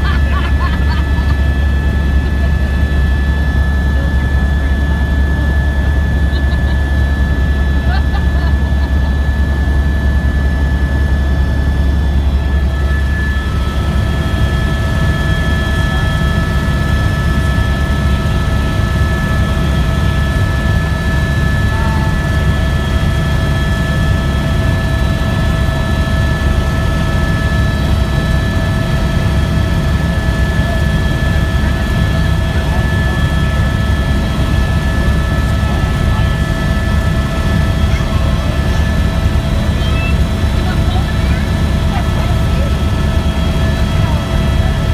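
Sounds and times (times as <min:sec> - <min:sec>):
helicopter rotor and engine drone: 0:00.0 - 0:44.9.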